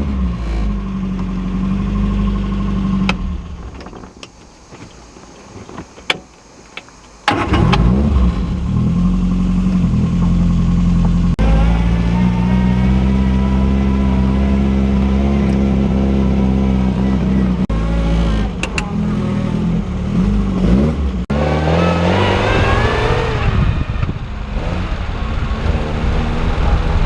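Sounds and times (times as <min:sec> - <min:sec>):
engine revving: 0:00.0 - 0:04.0, 0:07.2 - 0:27.0
car engine running: 0:00.0 - 0:27.0.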